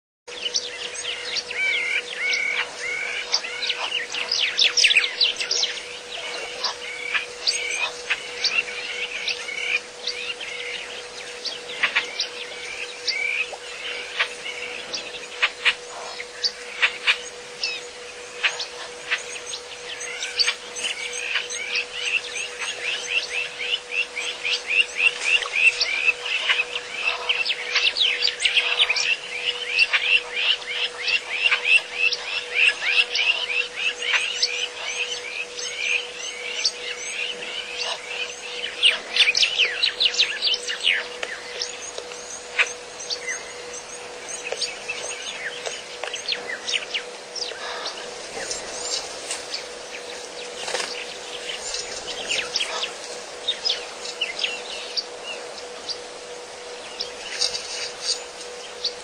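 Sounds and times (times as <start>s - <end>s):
faint steady hum: 0.3s - 59.0s
small birds chirping: 0.3s - 59.0s.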